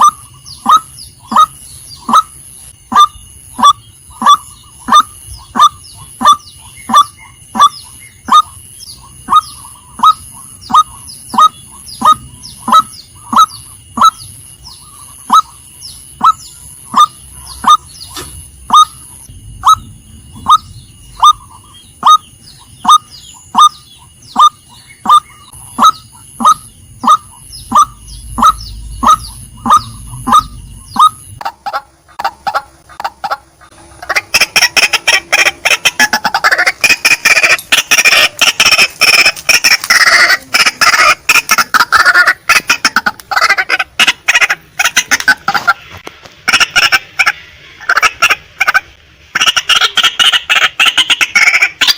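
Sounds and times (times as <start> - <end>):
waterhen calling: 0.0 - 15.6, 16.2 - 51.9.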